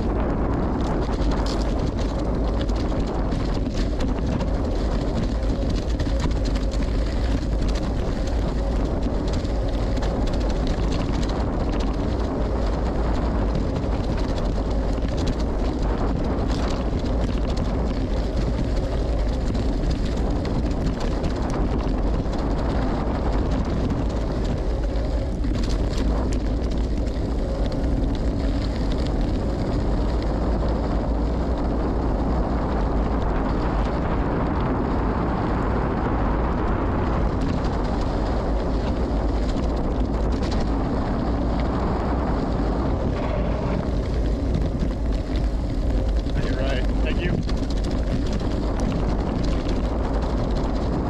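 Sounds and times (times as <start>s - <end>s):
bike tyres rolling on dirt: 0.0s - 51.0s
wind rushing over microphone: 0.0s - 51.0s.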